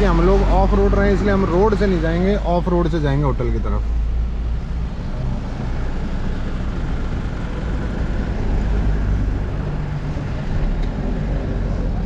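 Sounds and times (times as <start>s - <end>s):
car engine and tyres on dirt road: 0.0s - 12.0s.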